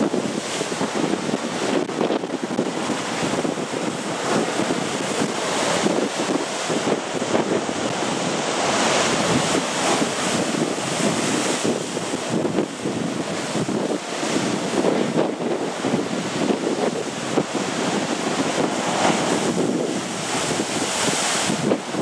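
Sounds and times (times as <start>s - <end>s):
surf breaking against rocks: 0.0s - 22.0s
wind buffeting microphone: 0.0s - 22.0s.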